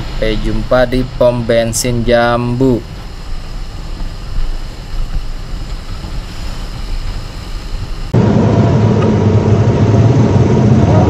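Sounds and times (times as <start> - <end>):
wind and road rush: 0.0 - 11.0.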